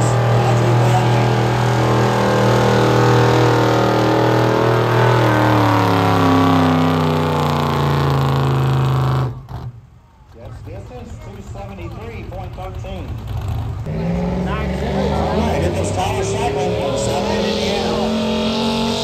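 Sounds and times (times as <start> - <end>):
truck engine at high revs: 0.0 - 9.9, 10.5 - 19.0.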